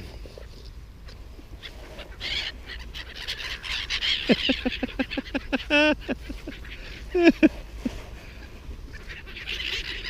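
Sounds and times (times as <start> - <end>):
seagulls calling: 0.3 - 10.0.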